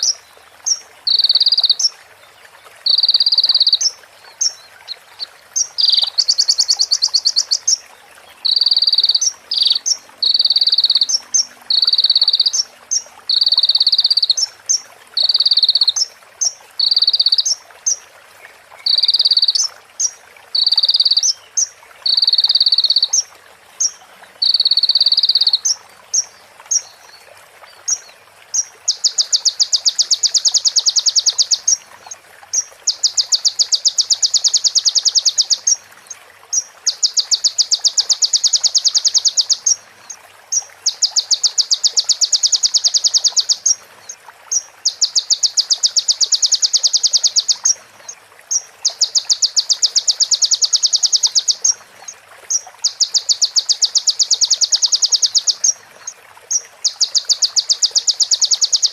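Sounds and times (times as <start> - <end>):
songbird ticking trill: 0.0 - 2.0, 2.8 - 18.0, 18.7 - 27.0, 27.8 - 35.8, 36.5 - 43.8, 44.5 - 58.9.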